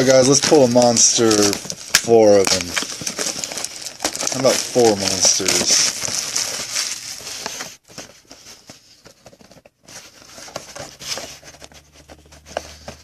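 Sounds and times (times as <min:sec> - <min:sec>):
packaging crinkling and rustling: 0:00.0 - 0:13.0
taps and scratches: 0:00.1 - 0:13.0.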